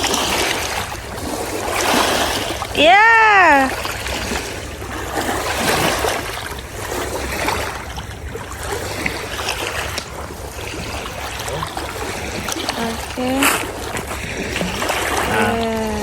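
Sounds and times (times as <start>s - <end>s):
river water rushing: 0.0s - 10.0s, 10.6s - 16.0s.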